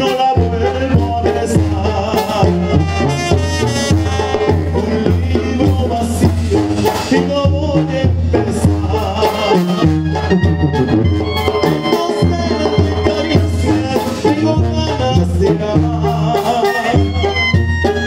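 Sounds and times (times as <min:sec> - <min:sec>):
bass line: 0:00.0 - 0:18.0
horns: 0:00.0 - 0:18.0
live band dance music: 0:00.0 - 0:18.0
steady drum beat: 0:00.0 - 0:18.0.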